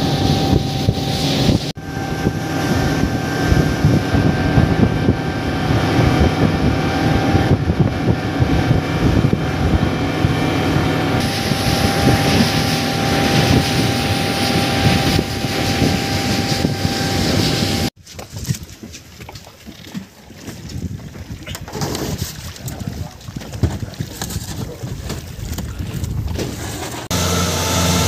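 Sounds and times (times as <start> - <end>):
boat engine running: 0.0 - 18.0, 19.7 - 28.0
rushing wind and water: 0.0 - 28.0.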